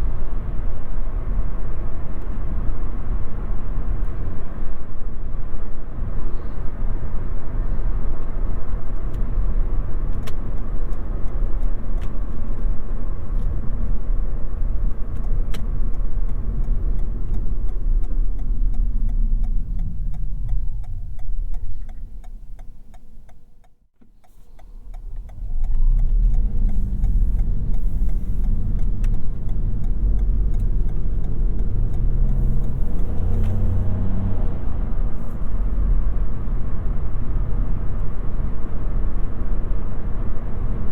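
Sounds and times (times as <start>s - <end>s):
tyre and road noise: 0.0s - 40.9s.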